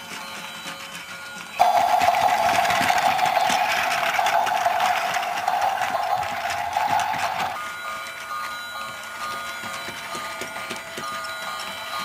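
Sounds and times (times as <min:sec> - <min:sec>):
toy train motor whining: 0:00.0 - 0:12.0.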